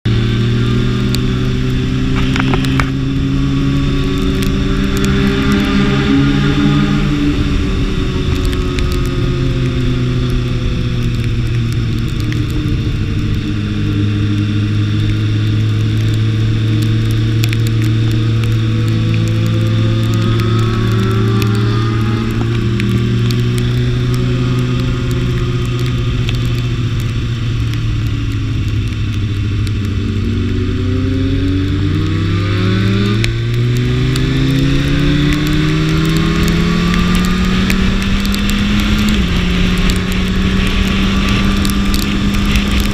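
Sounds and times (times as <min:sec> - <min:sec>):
motorcycle engine revving: 0:00.1 - 0:42.9.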